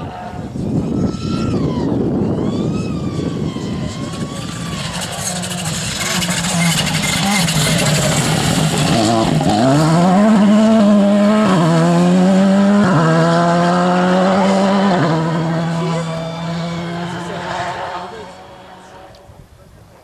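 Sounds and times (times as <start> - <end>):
rally car engine accelerating: 0.0 - 19.3.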